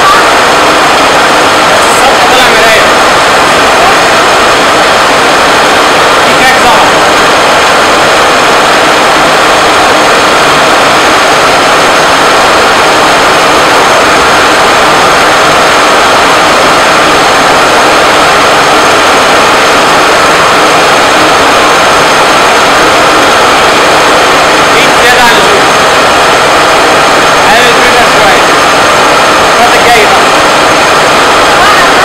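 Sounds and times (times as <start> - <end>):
milling machine running: 0.0 - 32.0.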